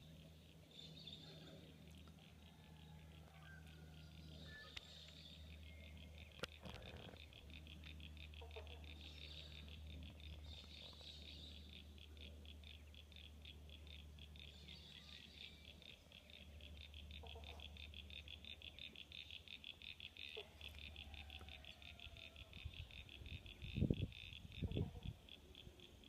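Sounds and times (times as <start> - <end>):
frogs calling: 0.0 - 26.0
low steady rumble: 0.0 - 26.0.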